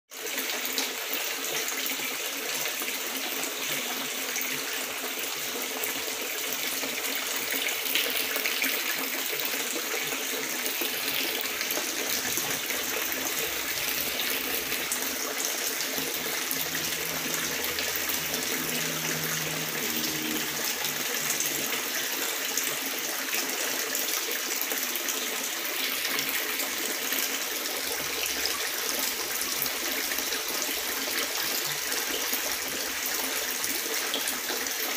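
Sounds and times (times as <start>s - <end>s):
water pouring into pond: 0.2s - 34.9s.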